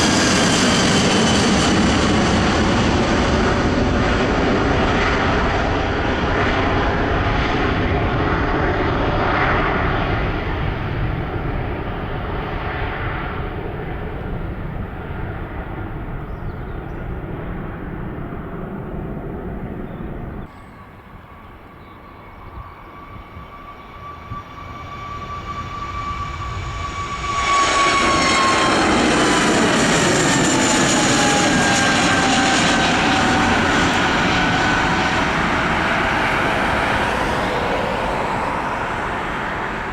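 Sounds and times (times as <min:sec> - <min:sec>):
jet engines roaring: 0:00.0 - 0:39.9
passing jet engine whine: 0:00.0 - 0:39.9.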